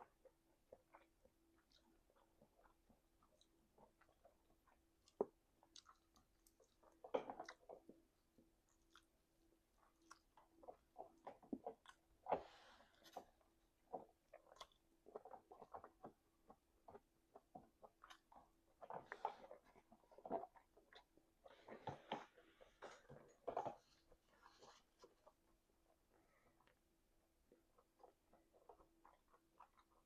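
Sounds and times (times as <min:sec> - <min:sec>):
wet open-mouthed chewing: 0:00.0 - 0:30.0.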